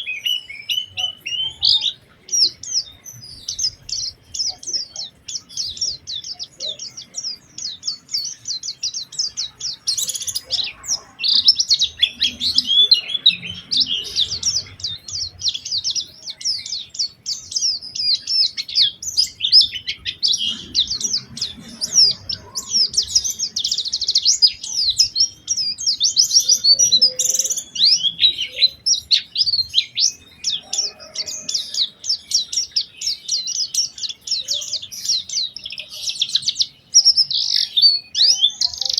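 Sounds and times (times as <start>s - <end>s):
bird twittering chirps and trills: 0.0s - 38.9s.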